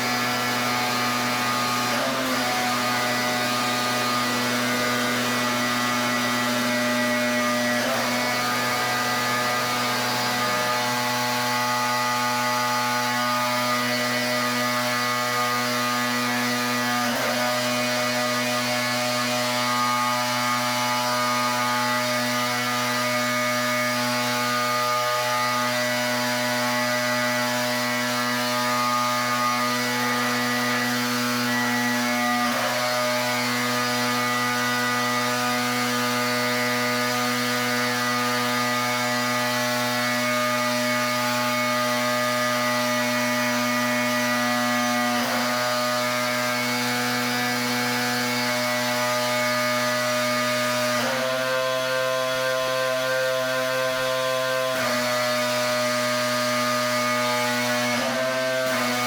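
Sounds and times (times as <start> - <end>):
pressure washer running: 0.0 - 59.0.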